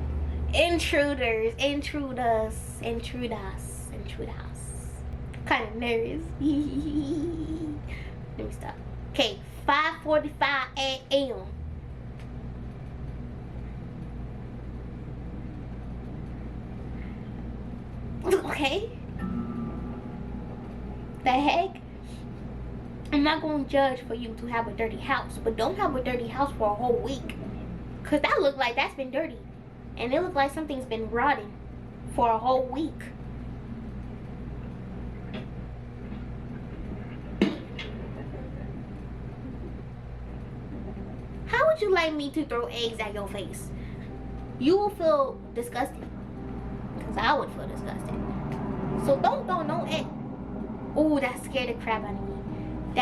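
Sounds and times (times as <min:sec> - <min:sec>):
low droning hum: 0:00.0 - 0:53.0.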